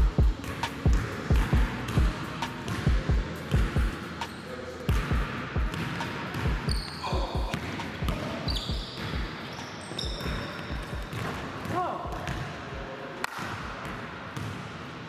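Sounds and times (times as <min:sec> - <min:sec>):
basketball bouncing on court: 0:00.0 - 0:12.5, 0:13.3 - 0:14.7.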